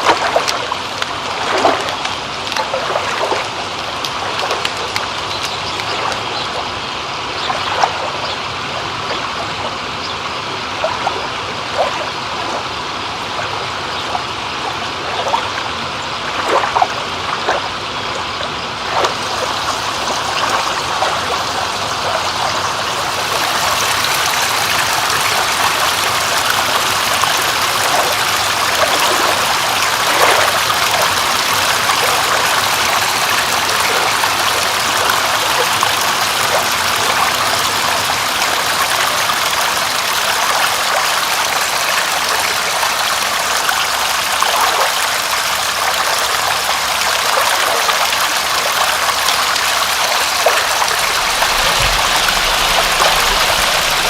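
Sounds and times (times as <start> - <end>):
faint water drips: 0.0 - 54.0
water washing: 0.0 - 54.0.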